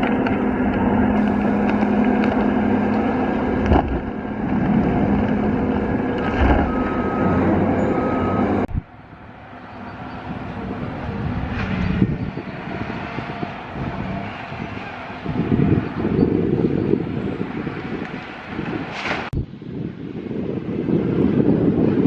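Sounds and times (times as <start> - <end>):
diesel engine and hydraulics: 0.0 - 20.3.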